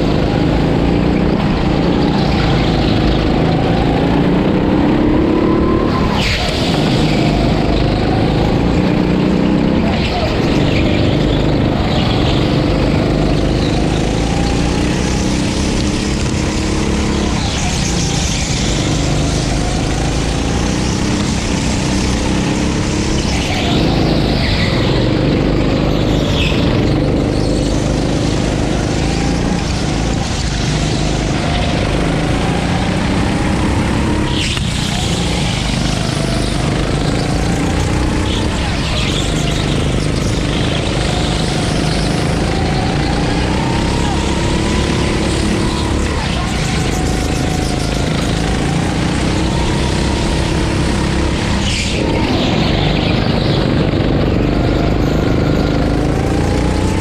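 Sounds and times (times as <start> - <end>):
kart engine accelerating and lifting off: 0.0 - 57.0.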